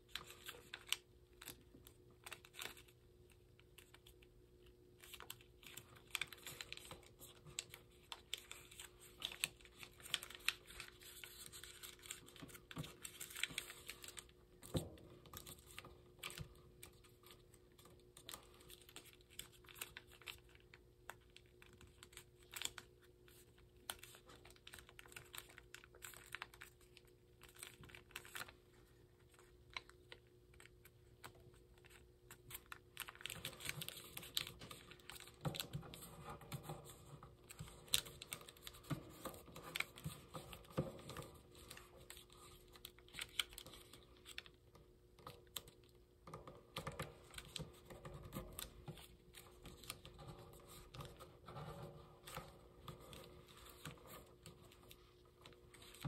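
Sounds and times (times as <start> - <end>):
paper being folded and creased: 0.0 - 4.2, 5.0 - 44.6, 45.2 - 56.0.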